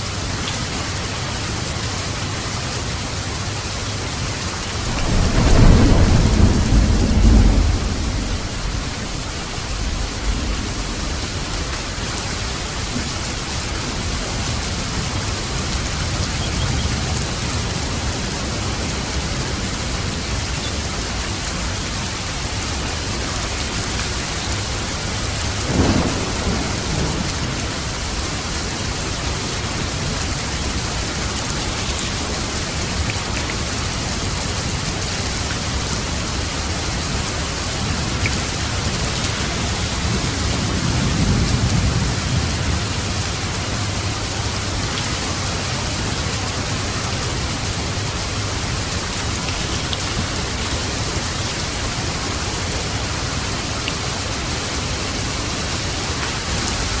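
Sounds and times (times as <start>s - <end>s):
steady rain: 0.0s - 57.0s
thunder rumble: 4.6s - 20.3s, 22.5s - 33.0s, 35.7s - 57.0s.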